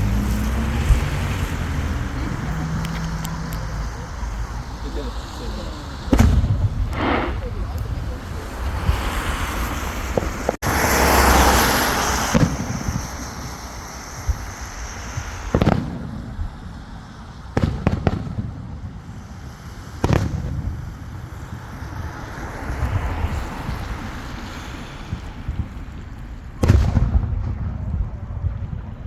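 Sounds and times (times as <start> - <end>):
fireworks bangs: 0.0 - 29.0
fireworks hissing and crackling: 0.0 - 29.0.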